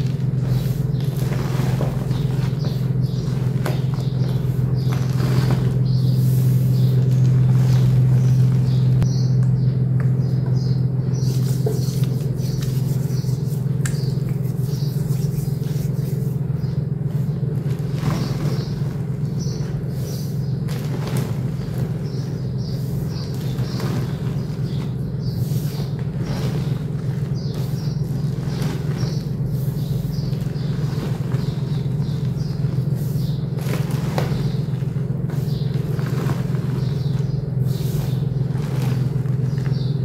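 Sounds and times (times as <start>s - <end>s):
hands squeezing chalk powder: 0.0s - 8.8s, 11.2s - 19.0s, 19.6s - 40.0s
steady low rumble: 0.0s - 40.0s.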